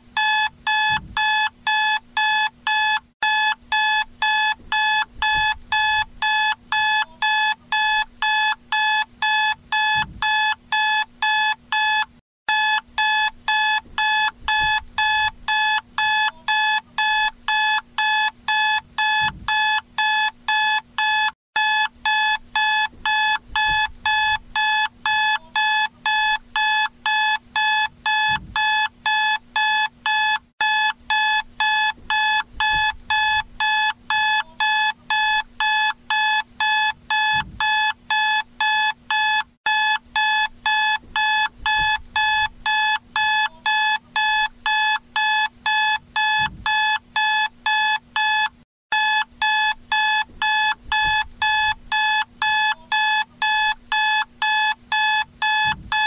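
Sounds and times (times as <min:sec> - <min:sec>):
alarm clock beeping: 0:00.2 - 0:56.0.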